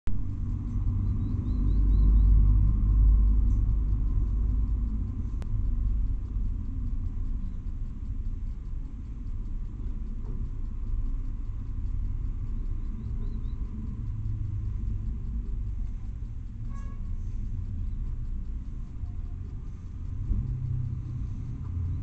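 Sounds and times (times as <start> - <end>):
passing vehicle rumble: 0.1 - 22.0.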